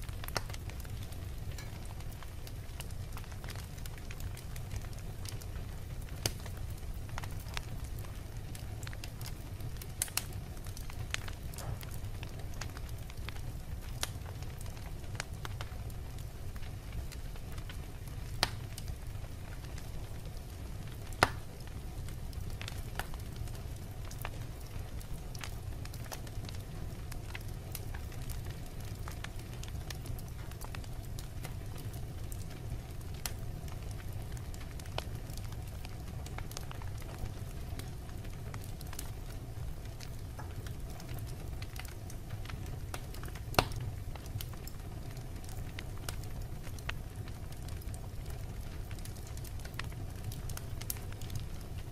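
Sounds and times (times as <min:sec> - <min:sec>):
fire crackling and popping: 0:00.0 - 0:51.9
fire rumbling: 0:00.0 - 0:51.9.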